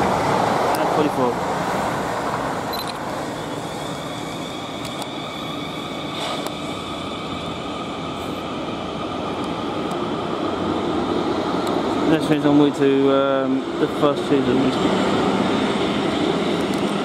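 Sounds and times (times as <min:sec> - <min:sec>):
electric train whine: 0:00.0 - 0:17.0
rail rumble: 0:00.0 - 0:17.0.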